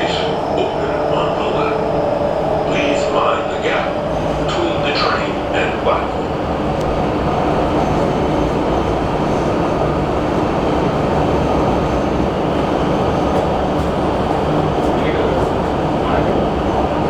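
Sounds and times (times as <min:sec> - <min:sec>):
train running inside carriage: 0:00.0 - 0:17.0.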